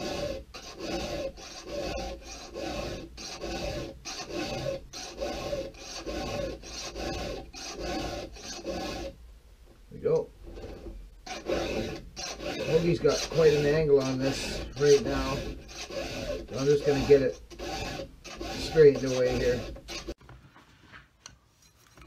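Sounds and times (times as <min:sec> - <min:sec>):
file rasping on chainsaw chain: 0:00.0 - 0:09.1, 0:10.6 - 0:20.2.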